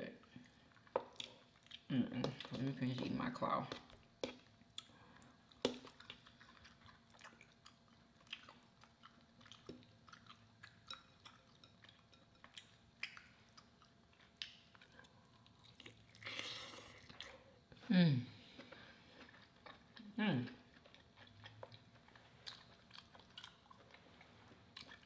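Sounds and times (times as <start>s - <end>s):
wet mouth chewing: 0.7s - 2.6s, 3.7s - 17.5s, 18.5s - 25.0s.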